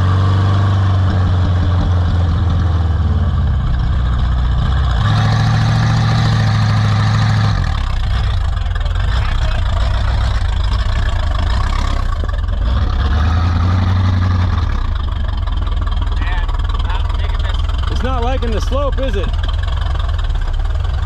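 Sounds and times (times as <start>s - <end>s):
truck engine running at low revs: 0.0s - 21.0s.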